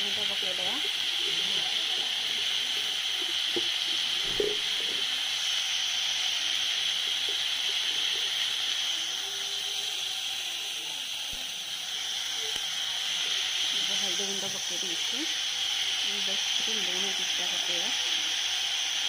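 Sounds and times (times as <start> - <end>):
vegetables sizzling in a wok: 0.0 - 19.0.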